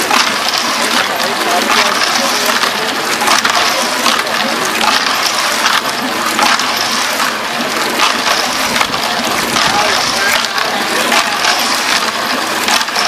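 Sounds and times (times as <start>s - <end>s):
concrete mixer drum rattling: 0.0s - 13.0s.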